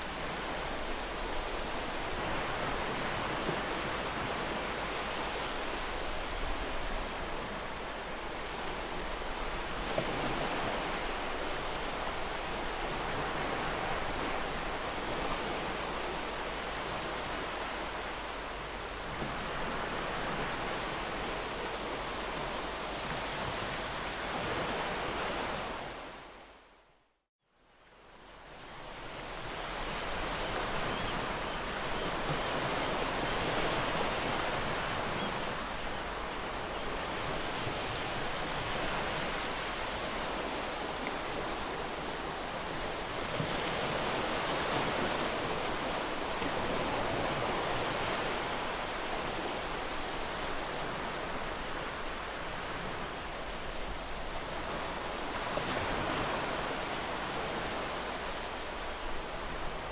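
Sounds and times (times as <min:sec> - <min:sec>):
ocean surf breaking on shore: 0:00.0 - 0:26.4, 0:28.6 - 0:59.9.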